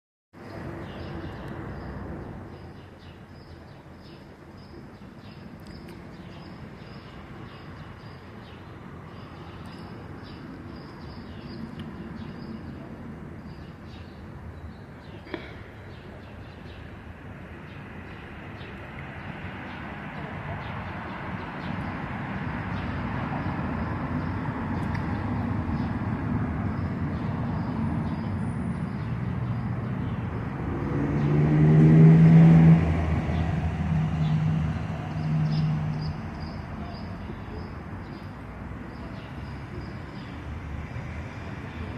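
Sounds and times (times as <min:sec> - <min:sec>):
small birds chirping: 0:00.4 - 0:31.4, 0:34.2 - 0:41.9
distant traffic rumble: 0:00.4 - 0:41.9.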